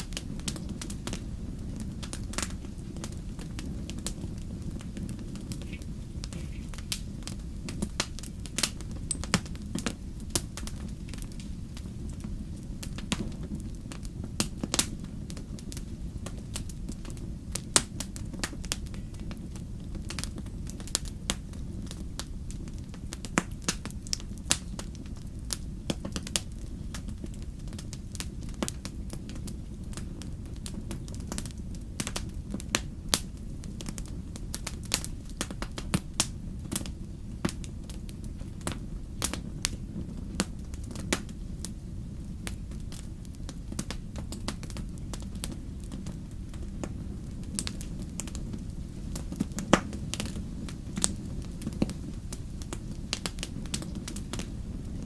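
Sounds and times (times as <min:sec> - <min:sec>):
low rumble of flames: 0:00.0 - 0:55.0
wood fire pops and snaps: 0:00.0 - 0:55.0.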